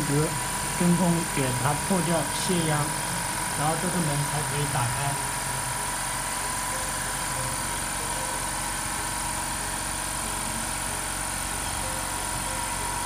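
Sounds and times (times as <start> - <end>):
high whine: 0.0 - 13.0
machinery hum: 0.0 - 13.0.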